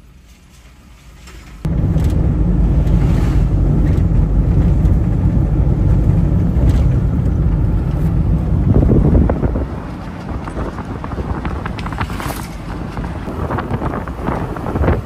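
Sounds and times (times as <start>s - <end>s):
road noise: 0.0s - 15.0s
car engine rumble: 0.8s - 15.0s
wind noise: 1.6s - 15.0s.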